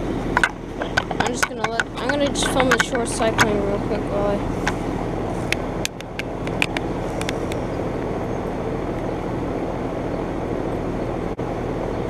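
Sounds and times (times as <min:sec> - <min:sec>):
compressor hum and fan noise: 0:00.0 - 0:12.0.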